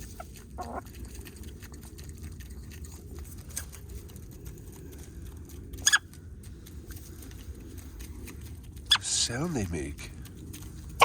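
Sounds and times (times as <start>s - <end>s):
chickens pecking at food: 0.0s - 11.0s.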